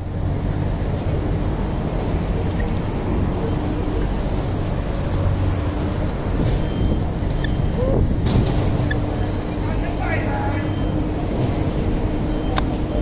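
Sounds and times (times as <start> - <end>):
engines humming: 0.0 - 13.0
road traffic rumble: 0.0 - 13.0.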